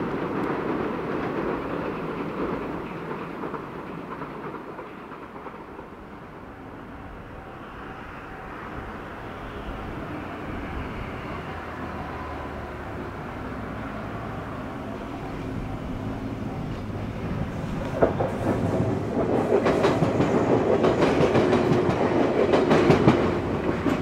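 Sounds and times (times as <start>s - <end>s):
train running: 0.0s - 24.0s.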